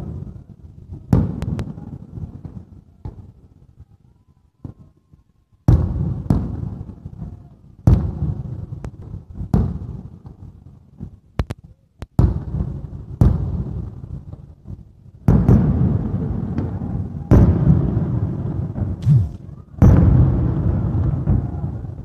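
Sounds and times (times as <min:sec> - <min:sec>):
fireworks bangs echoing: 0:00.0 - 0:03.4, 0:05.7 - 0:11.2, 0:12.2 - 0:22.0
fireworks crackling: 0:00.0 - 0:04.0, 0:04.6 - 0:22.0.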